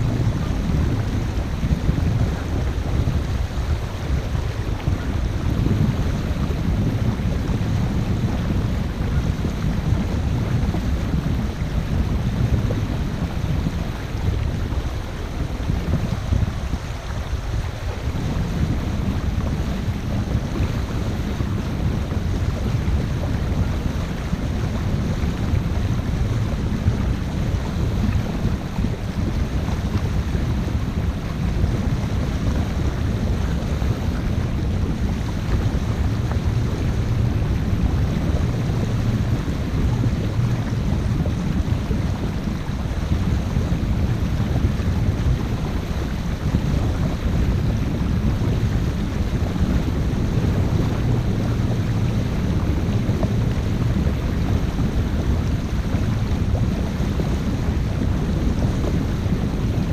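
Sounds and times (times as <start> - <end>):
boat engine rumble: 0.0 - 59.9
wind noise on microphone: 0.0 - 59.9.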